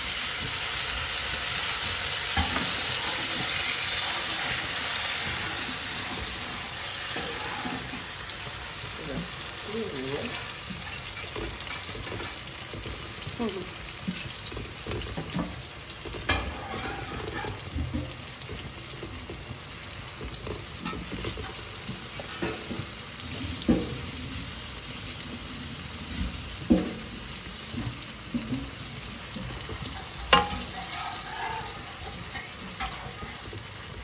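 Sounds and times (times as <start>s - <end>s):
food sizzling in pan: 0.0s - 34.0s
utensil knocking and scraping pan: 0.2s - 8.6s, 10.2s - 34.0s.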